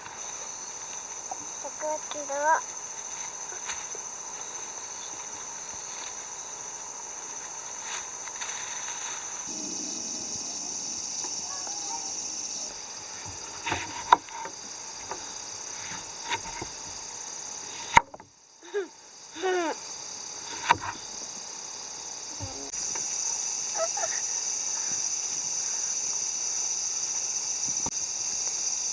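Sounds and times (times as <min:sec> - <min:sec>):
insects chorus: 0:00.0 - 0:28.9.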